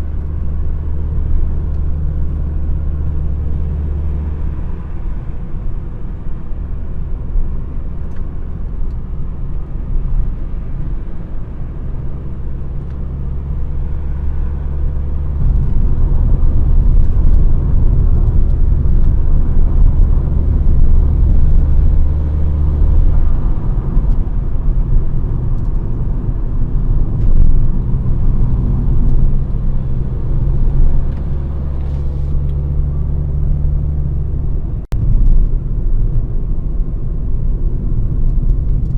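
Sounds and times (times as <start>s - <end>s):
deep car exhaust drone: 0.0s - 38.9s.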